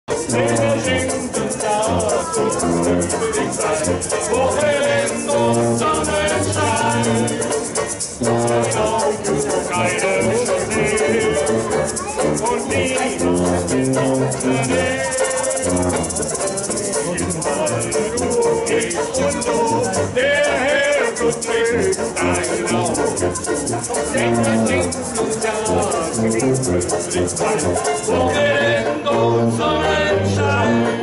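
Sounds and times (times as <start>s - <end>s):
upbeat music with shaker: 0.1s - 31.0s.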